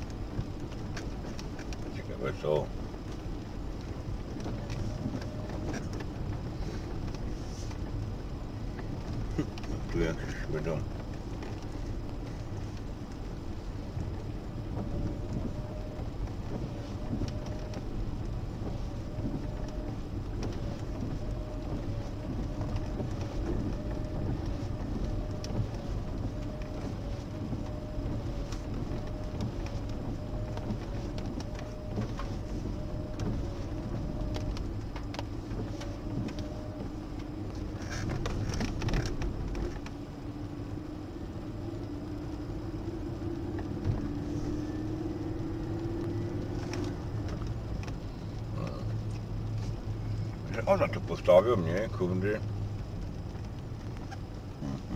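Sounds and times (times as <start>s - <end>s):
car engine and tyre rumble on gravel: 0.0s - 54.9s.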